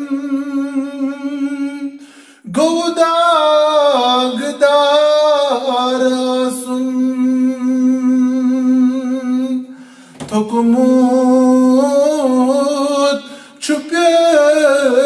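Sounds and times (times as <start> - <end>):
man singing solo: 0.0 - 9.6, 10.2 - 15.0.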